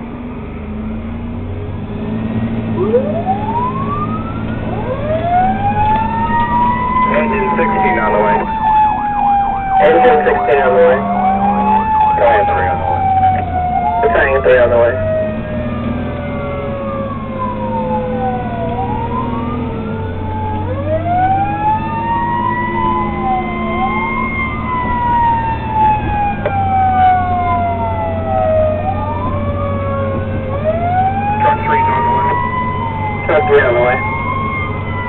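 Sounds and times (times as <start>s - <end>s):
truck engine drone: 0.0s - 35.0s
fire engine siren wailing: 0.6s - 35.0s.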